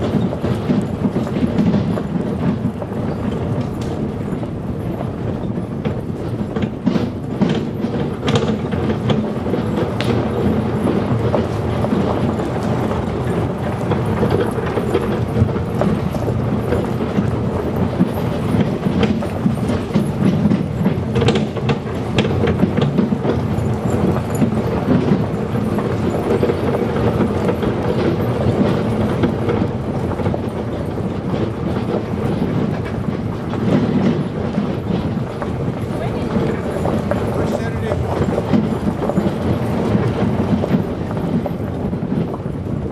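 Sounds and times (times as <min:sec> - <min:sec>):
wheels rattling on gravel: 0:00.0 - 0:42.9.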